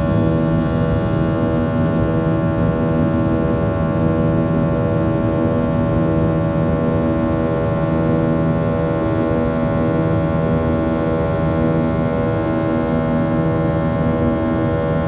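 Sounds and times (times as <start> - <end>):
jet engines hum in cabin: 0.0 - 15.0.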